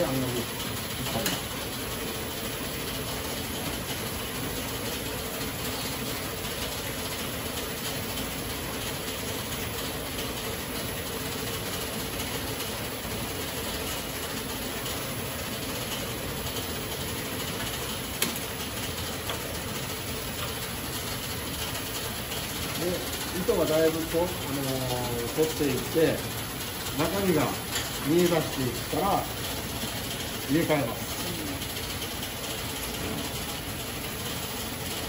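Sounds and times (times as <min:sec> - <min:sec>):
reeling machine running: 0:00.0 - 0:35.0.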